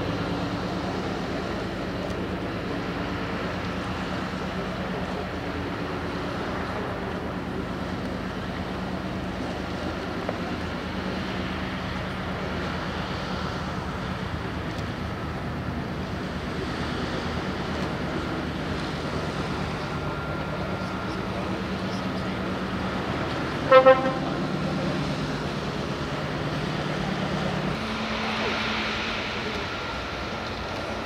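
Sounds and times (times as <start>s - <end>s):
ship engines humming: 0.0s - 31.0s
water noise: 0.0s - 31.0s
wind: 0.0s - 31.0s.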